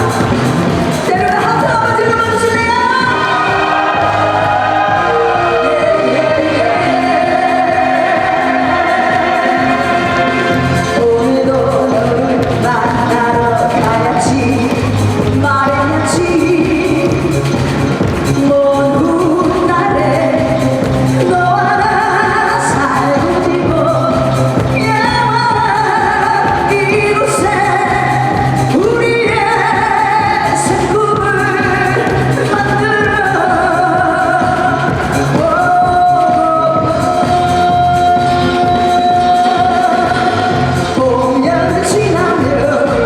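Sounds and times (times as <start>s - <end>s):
band accompaniment: 0.0s - 43.0s
person singing: 0.0s - 43.0s.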